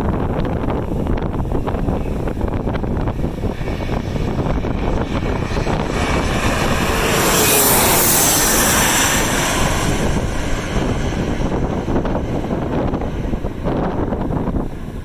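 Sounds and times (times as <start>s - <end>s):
airliner passing overhead: 0.0s - 15.0s
wind buffeting microphone: 0.0s - 15.0s.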